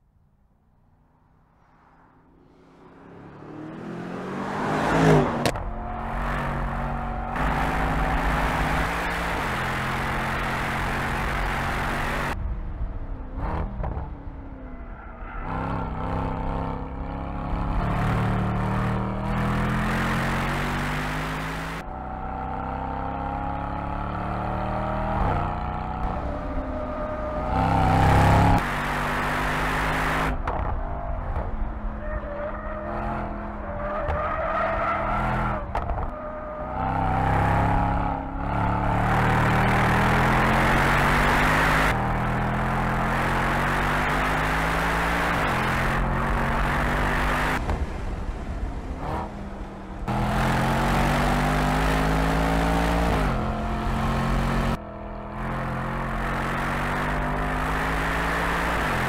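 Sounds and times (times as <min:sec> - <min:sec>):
car engine revving: 0:01.6 - 0:12.4, 0:13.4 - 0:48.3, 0:48.9 - 0:59.0.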